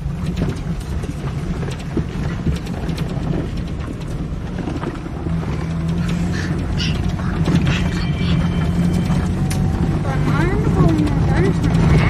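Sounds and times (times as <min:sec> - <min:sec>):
engine and road rumble: 0:00.0 - 0:12.0
small rattles and knocks: 0:00.0 - 0:12.0.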